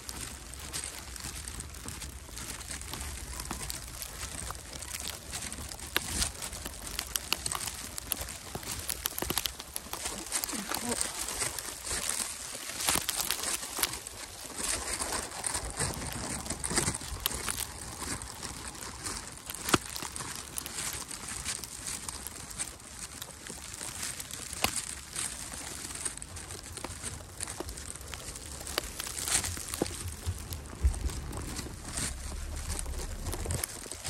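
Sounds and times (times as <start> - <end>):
footsteps crunching through snow: 0.0 - 34.0.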